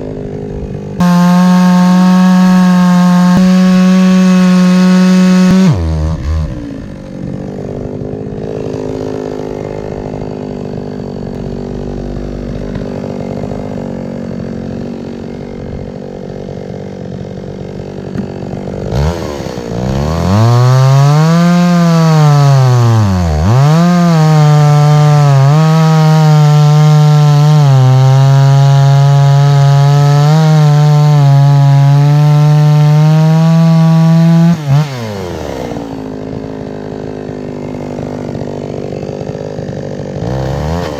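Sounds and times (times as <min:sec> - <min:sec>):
chainsaw cutting log: 0:00.0 - 0:40.9
chainsaw engine: 0:00.0 - 0:40.9.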